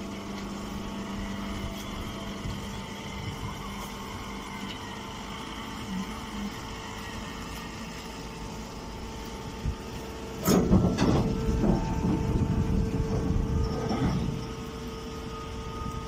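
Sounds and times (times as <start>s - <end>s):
baler humming and clattering: 0.0s - 16.0s.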